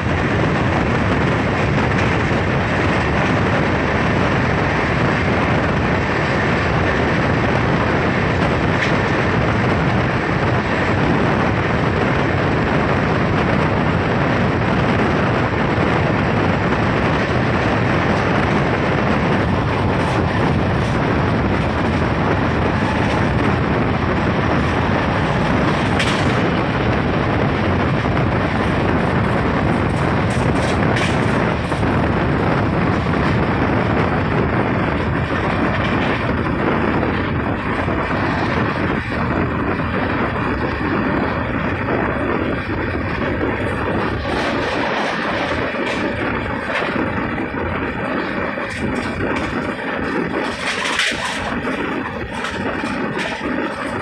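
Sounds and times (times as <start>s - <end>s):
track clacks: 0.0s - 54.0s
train wheels on rails: 0.0s - 54.0s
wind rushing over microphone: 0.0s - 54.0s.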